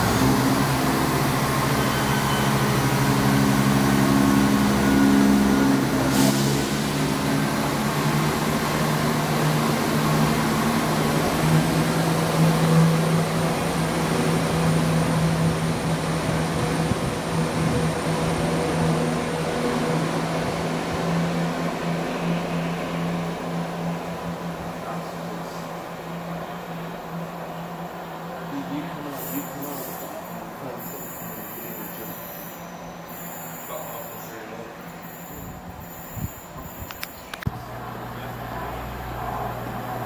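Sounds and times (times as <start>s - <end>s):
diesel train engine droning: 0.0s - 40.0s.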